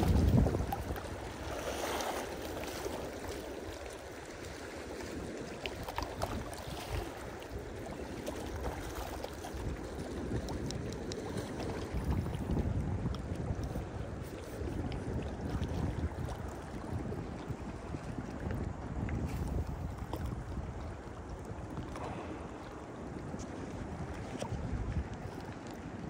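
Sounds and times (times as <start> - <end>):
lake water lapping: 0.0 - 26.0
wind rumbling on microphone: 0.0 - 26.0.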